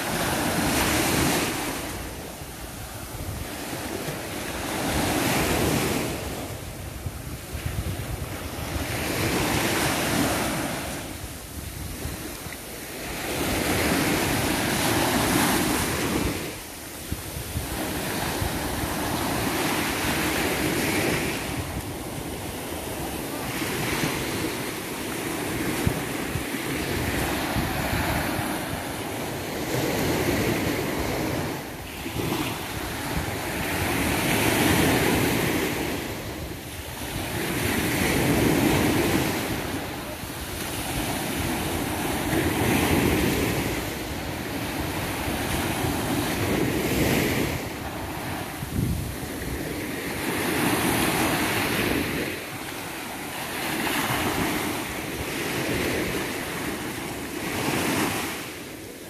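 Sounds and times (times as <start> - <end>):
sea waves breaking on beach: 0.0 - 59.0
wind buffeting microphone: 0.0 - 59.0.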